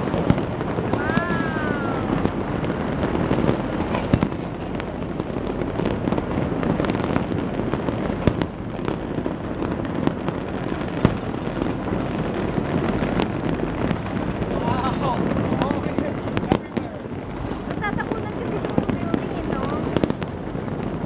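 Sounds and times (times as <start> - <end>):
fireworks crackling: 0.0 - 21.0
sharp firecracker bangs: 0.0 - 21.0.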